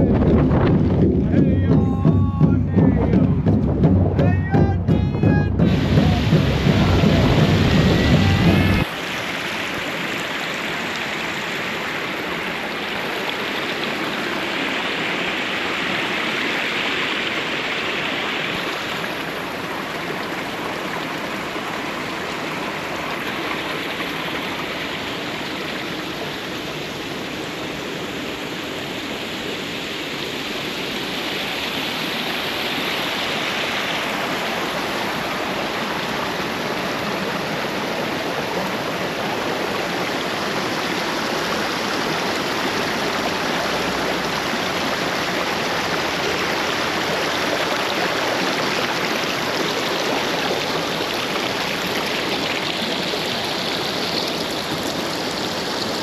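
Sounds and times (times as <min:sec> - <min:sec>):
stream water rushing and splashing: 0:00.0 - 0:56.0.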